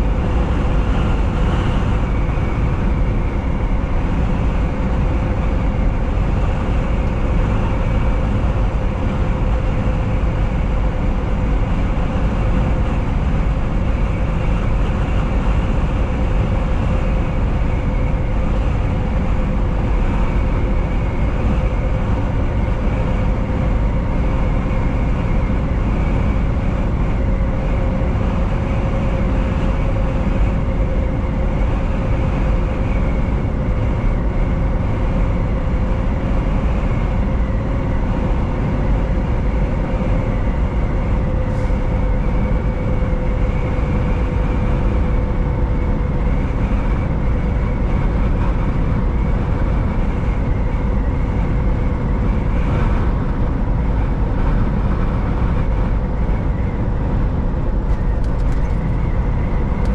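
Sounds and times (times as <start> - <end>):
road and tyre noise: 0.0 - 59.9
truck engine drone: 0.0 - 59.9.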